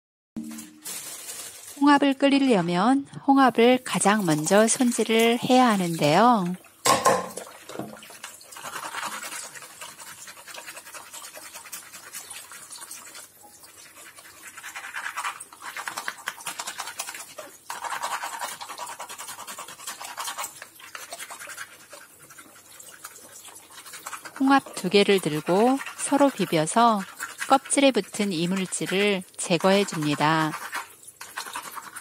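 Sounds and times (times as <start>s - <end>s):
running tap water: 1.7s - 32.0s.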